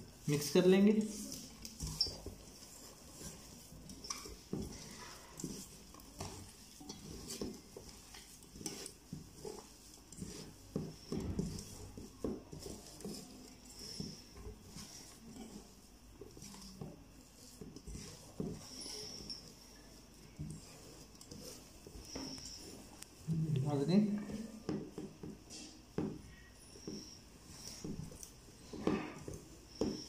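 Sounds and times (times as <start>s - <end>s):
hand squelching mashed potatoes: 0.0s - 30.0s.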